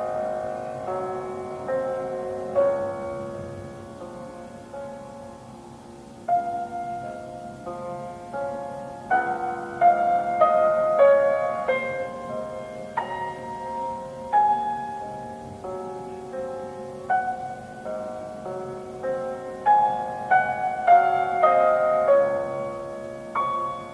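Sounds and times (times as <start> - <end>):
slow solo piano melody: 0.0 - 23.9.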